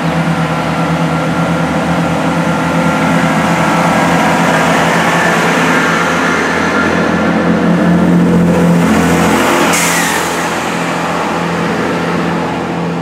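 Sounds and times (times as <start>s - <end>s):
diesel train engines humming: 0.0s - 13.0s
rising whine: 0.0s - 13.0s.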